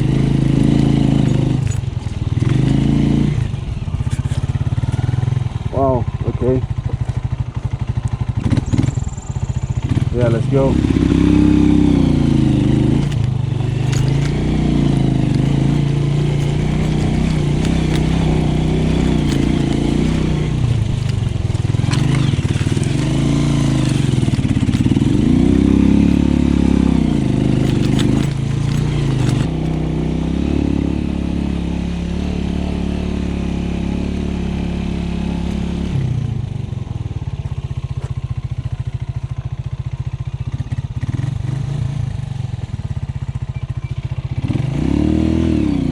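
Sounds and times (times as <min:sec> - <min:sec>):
small motorcycle engine revving: 0:00.0 - 0:45.9.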